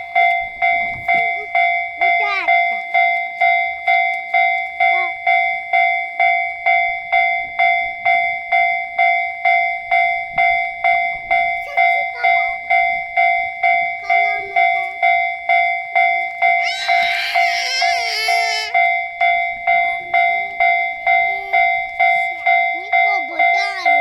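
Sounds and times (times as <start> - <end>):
level-crossing alarm two-tone ringing: 0.0 - 24.0.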